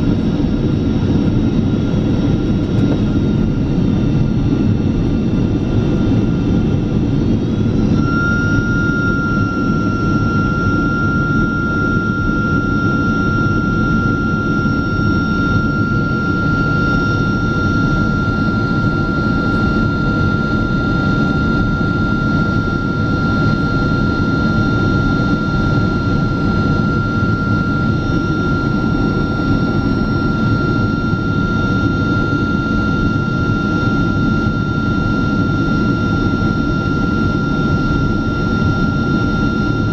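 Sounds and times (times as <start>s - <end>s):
airliner cabin rumble: 0.0s - 36.4s
high engine whine: 0.0s - 39.9s.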